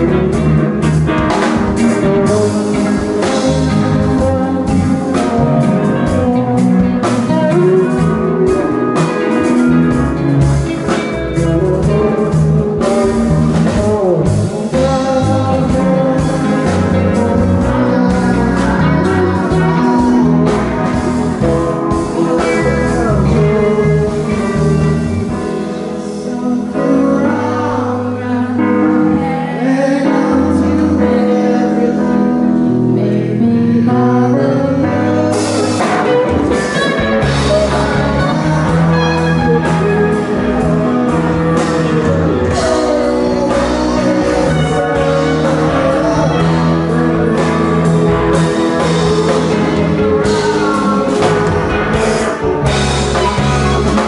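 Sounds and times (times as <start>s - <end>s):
drums and cymbals: 0.0s - 25.6s, 35.3s - 54.0s
live rock band playing: 0.0s - 54.0s
person singing: 0.0s - 54.0s.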